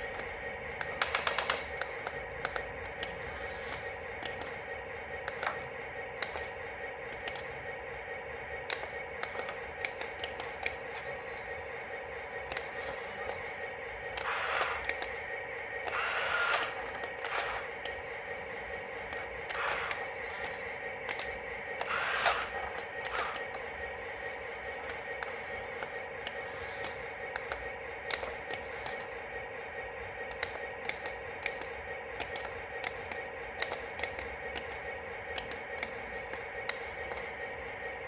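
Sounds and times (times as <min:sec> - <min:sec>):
clicks: 0:00.0 - 0:07.7, 0:08.6 - 0:11.1, 0:14.1 - 0:29.3, 0:30.2 - 0:37.8
toy electric motor whining: 0:00.0 - 0:07.7, 0:08.6 - 0:29.5, 0:30.2 - 0:38.0.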